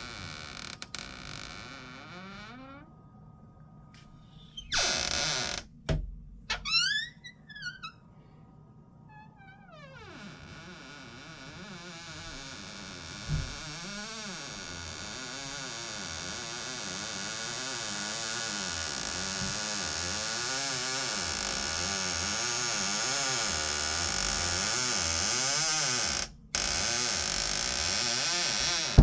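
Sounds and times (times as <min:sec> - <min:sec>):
door hinge creaking: 0:00.0 - 0:02.8, 0:04.6 - 0:08.0, 0:09.1 - 0:29.0.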